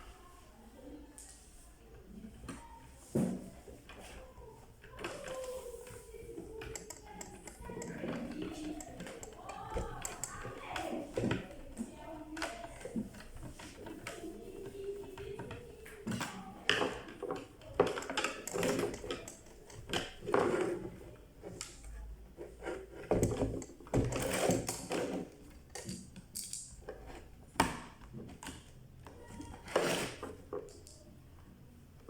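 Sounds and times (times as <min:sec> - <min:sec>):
small hard parts clicking and scraping: 0:03.7 - 0:31.1.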